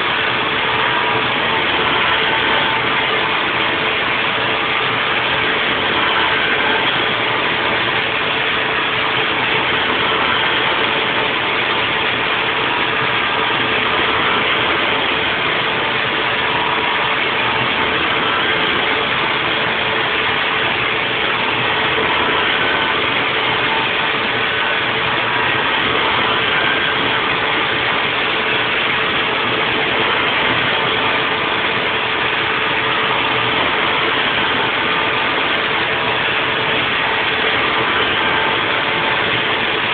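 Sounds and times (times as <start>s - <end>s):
milling machine running: 0.0s - 39.9s.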